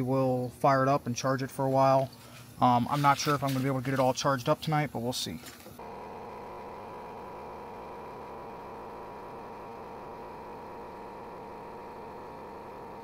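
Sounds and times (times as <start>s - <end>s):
steady high whine: 0.0s - 13.0s
small air pump running: 1.5s - 13.0s.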